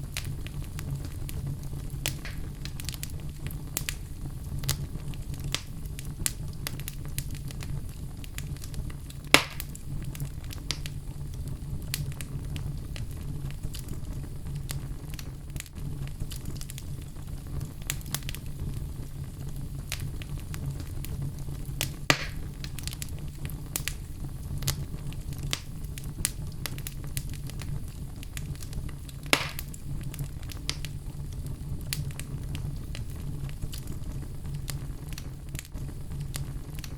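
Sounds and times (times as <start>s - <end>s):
loud fire pops: 0.0s - 36.9s
low rumble of flame: 0.0s - 36.9s
wood fire crackling: 0.0s - 36.9s.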